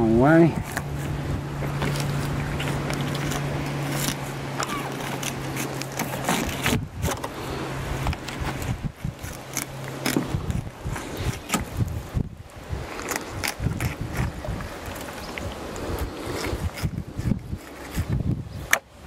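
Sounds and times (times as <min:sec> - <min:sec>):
low motor hum: 0:00.0 - 0:19.0
knife cutting and scraping fish: 0:00.6 - 0:12.0, 0:12.7 - 0:18.8.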